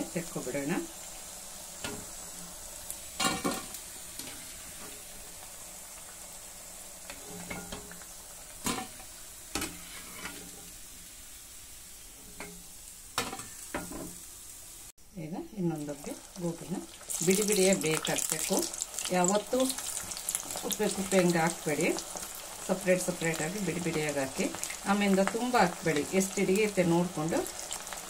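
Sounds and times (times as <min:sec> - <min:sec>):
deep-frying sizzle in hot oil: 0:00.0 - 0:28.0.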